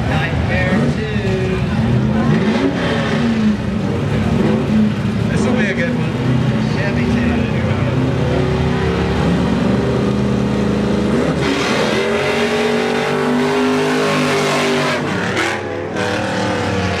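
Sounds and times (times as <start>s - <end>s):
racing car engine accelerating: 0.5s - 17.0s.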